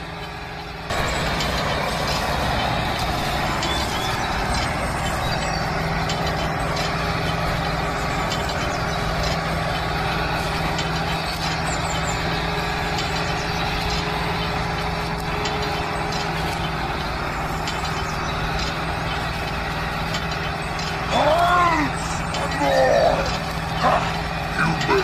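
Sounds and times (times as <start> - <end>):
toy tractor motor droning: 0.0 - 25.0.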